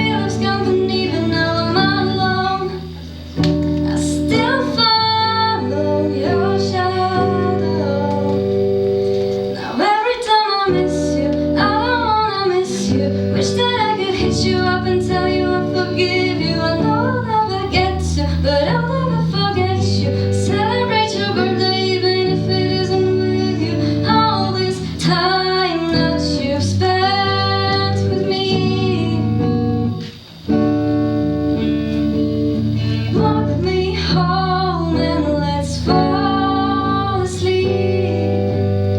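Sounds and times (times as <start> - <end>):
woman singing: 0.0 - 30.2, 32.8 - 38.9
guitar accompaniment: 0.0 - 38.9.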